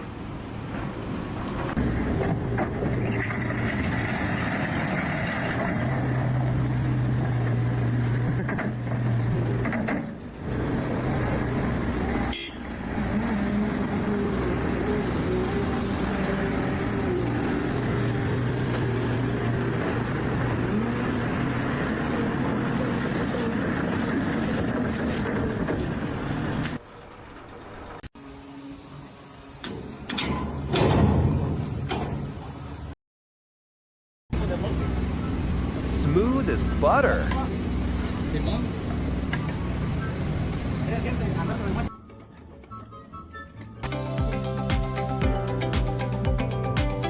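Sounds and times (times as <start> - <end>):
engines humming: 0.0 - 30.7, 34.3 - 46.8.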